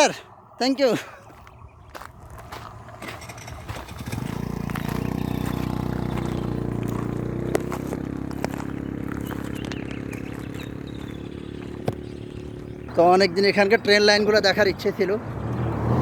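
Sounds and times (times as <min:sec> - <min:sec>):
vehicle engine droning: 0:02.3 - 0:16.0.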